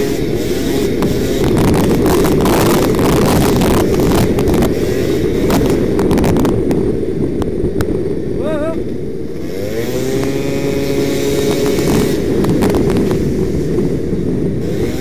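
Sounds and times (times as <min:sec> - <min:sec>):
two-stroke engine at high revs: 0:00.0 - 0:07.6, 0:09.0 - 0:15.0
wind noise on microphone: 0:00.0 - 0:15.0.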